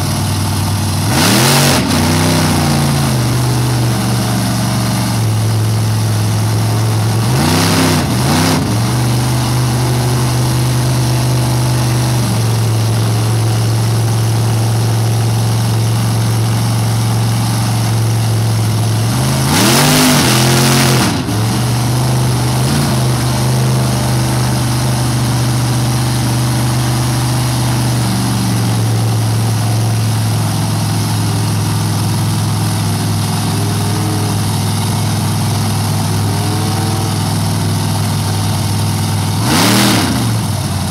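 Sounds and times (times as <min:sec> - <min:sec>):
tires spinning in mud: 0:00.0 - 0:40.9
truck engines idling and revving: 0:00.0 - 0:40.9.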